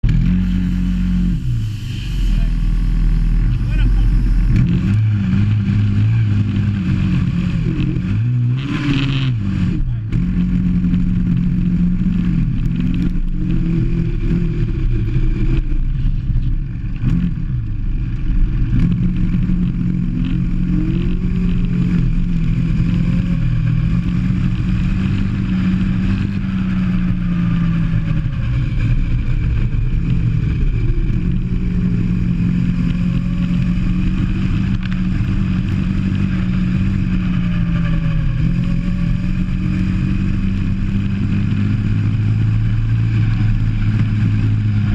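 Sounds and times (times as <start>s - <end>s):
go-kart engine revving: 0.0s - 44.9s.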